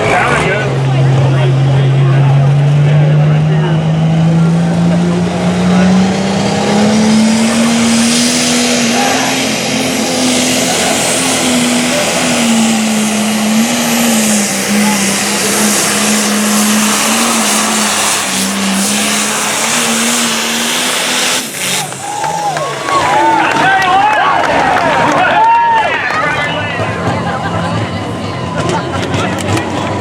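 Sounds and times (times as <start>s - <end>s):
diesel tractor engine at high revs: 0.0s - 30.0s.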